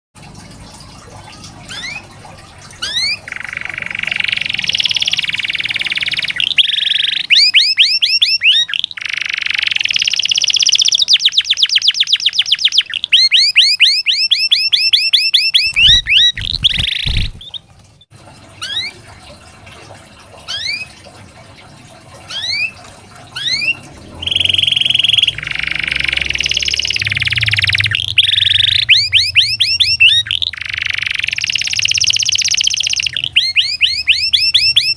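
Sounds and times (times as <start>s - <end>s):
canary singing trills: 1.7s - 2.2s, 2.8s - 17.7s, 18.6s - 19.0s, 20.5s - 21.0s, 22.3s - 34.9s.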